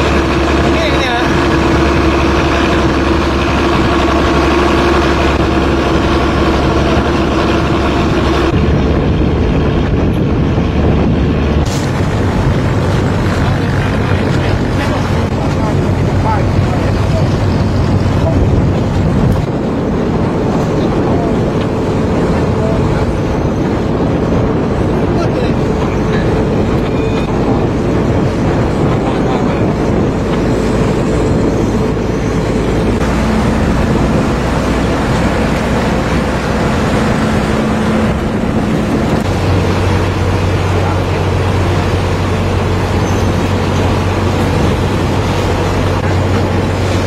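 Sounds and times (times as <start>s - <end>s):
boat engine drone: 0.0s - 47.0s
water noise: 0.0s - 47.0s
wind: 0.0s - 47.0s.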